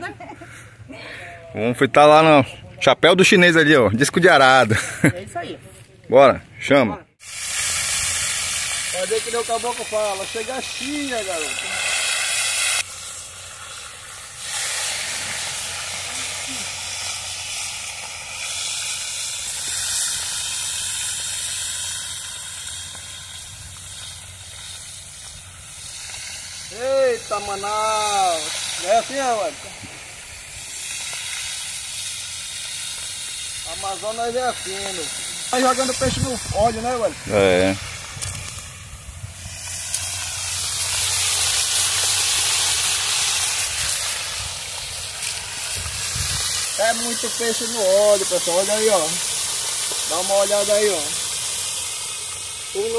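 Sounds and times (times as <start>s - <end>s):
fish sizzling in hot oil: 7.2s - 52.9s.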